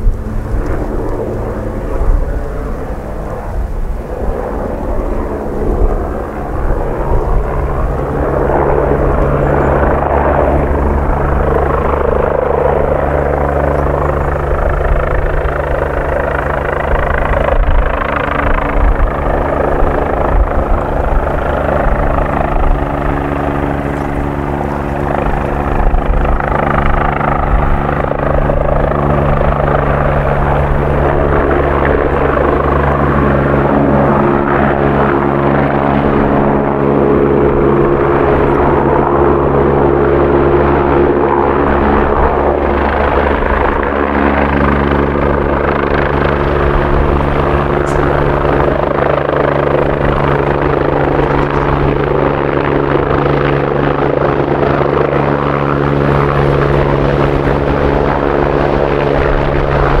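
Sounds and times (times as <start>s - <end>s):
helicopter hovering: 0.0s - 60.0s.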